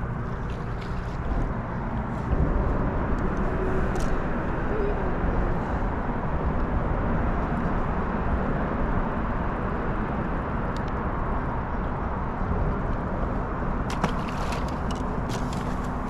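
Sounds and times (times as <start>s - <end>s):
steady rushing wind and water: 0.0s - 16.0s.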